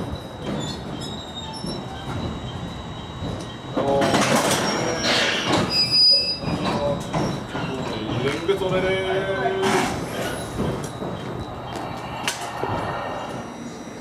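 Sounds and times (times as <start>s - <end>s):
hissing squealing train noise: 0.0s - 14.0s.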